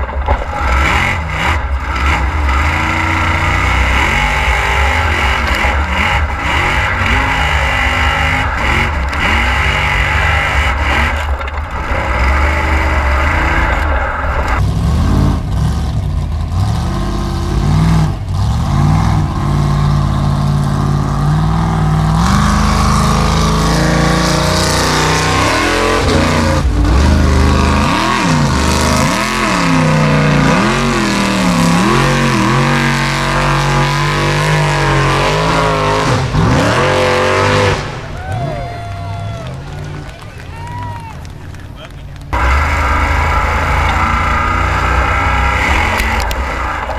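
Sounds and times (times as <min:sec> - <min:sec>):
buggy engine revving hard: 0:00.0 - 0:46.9.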